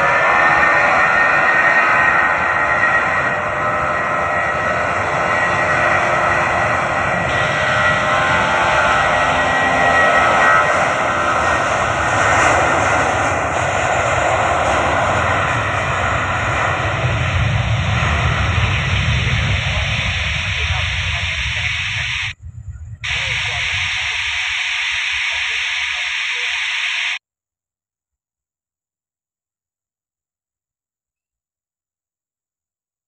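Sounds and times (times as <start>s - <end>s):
jet engines roaring: 0.0s - 22.4s, 23.0s - 27.2s
faint engine whine: 0.0s - 27.2s.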